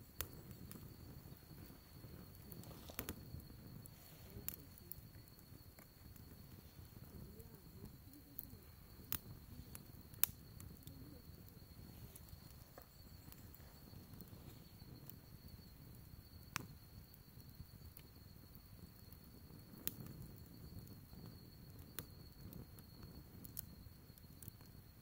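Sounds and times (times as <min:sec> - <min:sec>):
fire pops: 0:00.0 - 0:24.9
wood fire crackling: 0:00.0 - 0:25.0.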